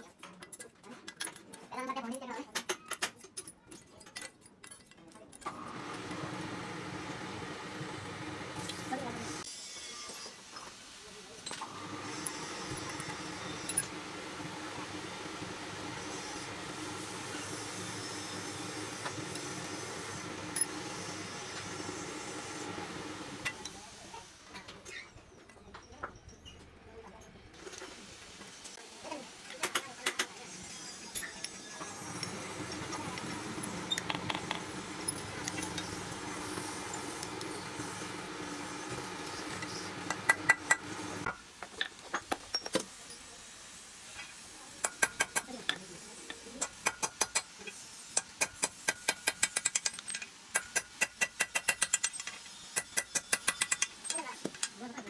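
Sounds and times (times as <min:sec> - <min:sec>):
steady mechanical hum with hiss: 0:05.4 - 0:55.0.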